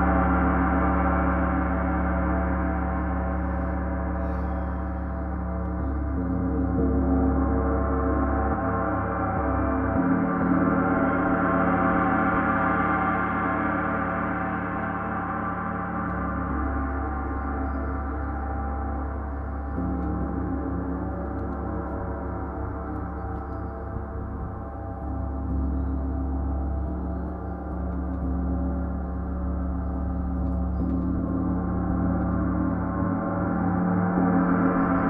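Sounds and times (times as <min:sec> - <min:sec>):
gong shimmering wash: 0:00.0 - 0:35.0
low hum: 0:00.0 - 0:35.0.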